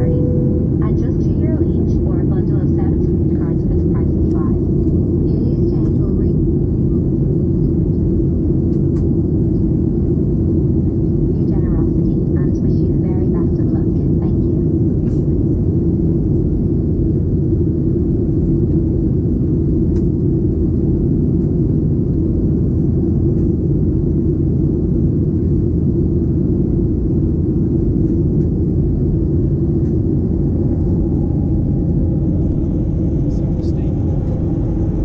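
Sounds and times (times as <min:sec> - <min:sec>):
jet engine roar in cabin: 0:00.0 - 0:35.0.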